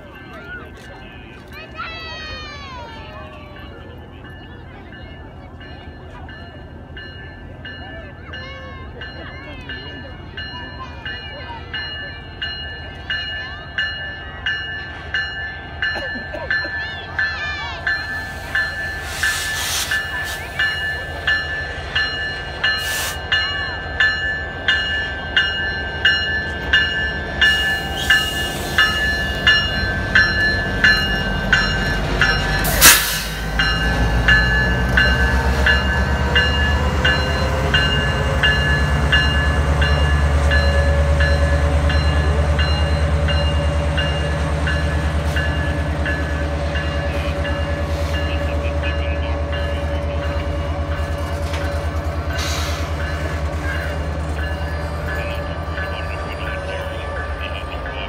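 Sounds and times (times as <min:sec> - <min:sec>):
locomotive bell ringing: 0:00.0 - 0:58.0
locomotive engine rumble: 0:00.0 - 0:58.0.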